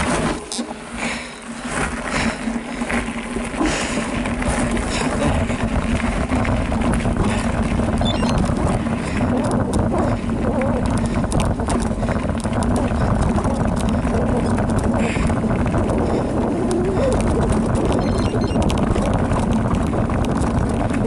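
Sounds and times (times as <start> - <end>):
bike and stones rattling: 0.0 - 21.0
tyres and wind rumbling: 0.0 - 21.0.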